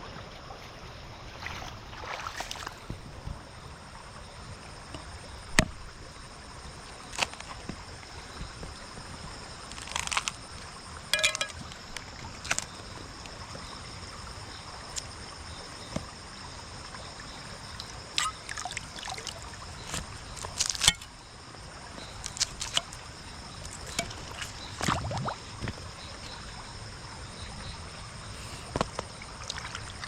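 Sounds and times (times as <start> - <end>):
night insects droning: 0.0 - 30.0
splashes in shallow water: 0.1 - 3.5, 6.7 - 26.8, 28.9 - 30.0.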